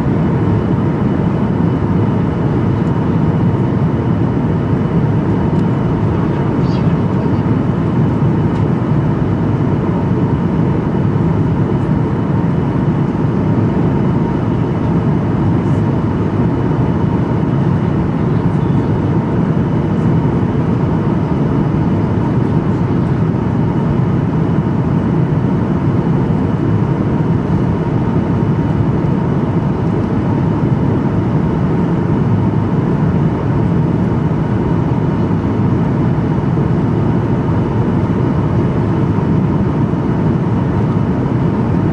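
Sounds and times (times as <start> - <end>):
faint steady whine: 0.0 - 41.9
low rumble of engines: 0.0 - 41.9.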